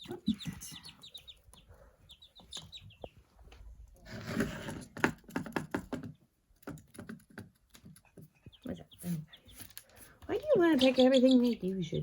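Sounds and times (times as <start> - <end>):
chicks peeping: 0.0 - 4.0, 5.4 - 12.0.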